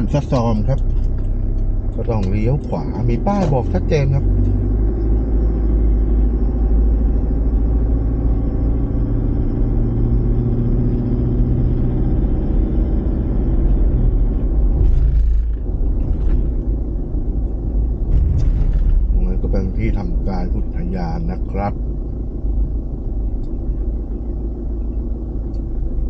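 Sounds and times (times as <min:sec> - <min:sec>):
low road rumble: 0:00.0 - 0:26.0
vehicle engine drone: 0:00.0 - 0:26.0.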